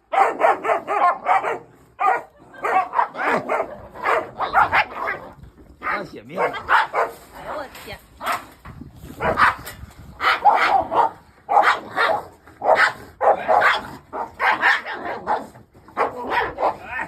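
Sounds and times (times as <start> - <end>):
dogs barking and fighting: 0.0 - 17.0.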